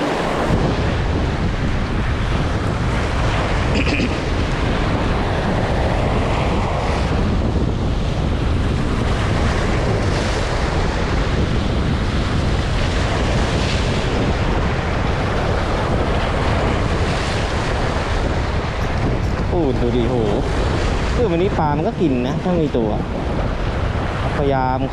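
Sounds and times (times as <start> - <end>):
waves washing against shore: 0.0 - 24.9
wind buffeting microphone: 0.0 - 24.9.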